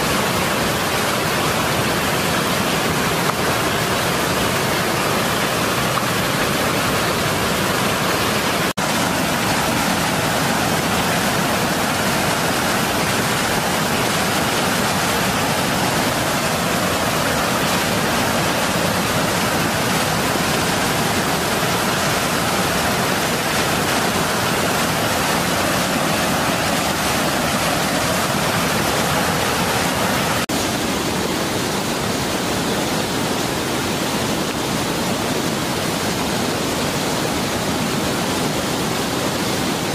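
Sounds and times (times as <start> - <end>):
river rushing over dam: 0.0 - 39.9.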